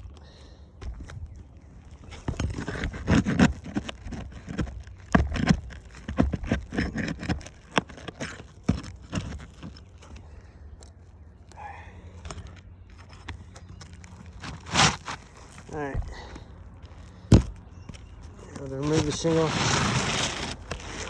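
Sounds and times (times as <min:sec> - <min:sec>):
tools scraping and tapping shingles: 0:00.0 - 0:21.0.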